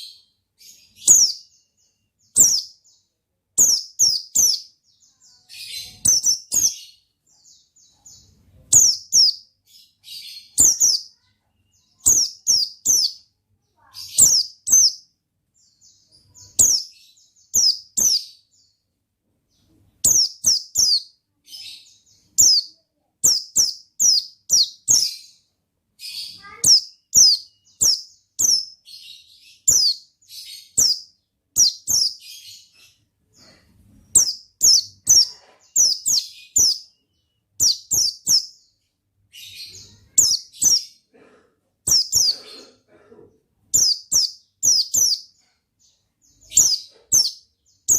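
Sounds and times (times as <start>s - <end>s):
bird chirping high-pitched: 0.0s - 18.8s, 19.5s - 41.1s, 41.8s - 42.7s, 43.7s - 47.9s.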